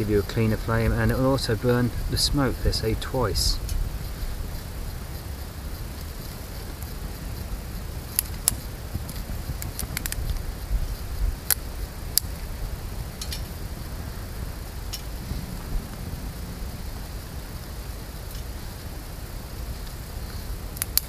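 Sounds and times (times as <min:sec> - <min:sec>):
steady low rumble: 0:00.0 - 0:21.0
wood fire crackling and popping: 0:00.0 - 0:21.0.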